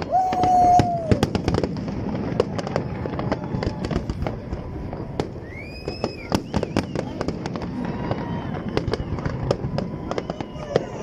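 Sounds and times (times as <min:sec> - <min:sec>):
firework whistling: 0:00.0 - 0:11.0
fireworks crackling and popping: 0:00.0 - 0:11.0.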